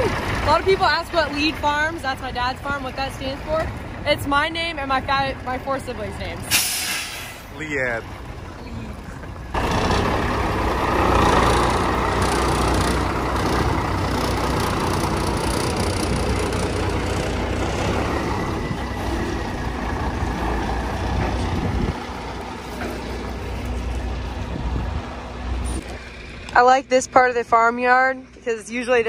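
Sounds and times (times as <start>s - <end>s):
truck diesel engine rumbling: 0.0s - 29.0s.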